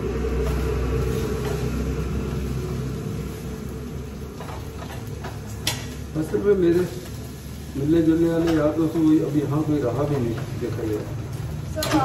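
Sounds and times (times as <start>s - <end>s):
low mechanical rumble with hum: 0.0s - 12.0s.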